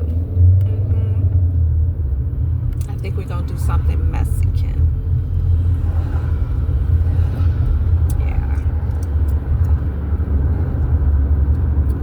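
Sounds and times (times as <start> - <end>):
truck rumble inside cabin: 0.0 - 12.0.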